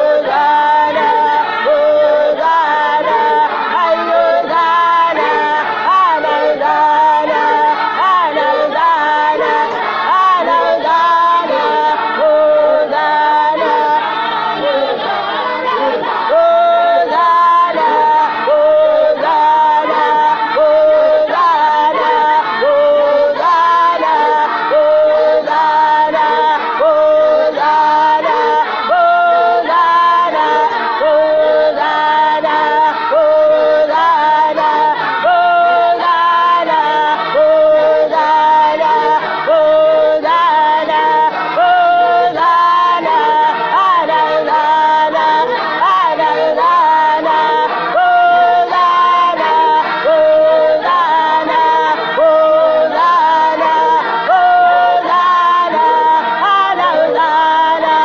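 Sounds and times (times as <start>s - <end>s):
women's choir singing gospel: 0.0s - 58.0s.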